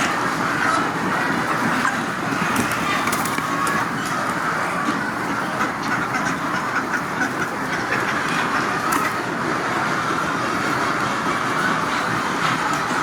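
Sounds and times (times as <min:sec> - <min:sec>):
flock of chickens clucking: 0:00.0 - 0:13.0.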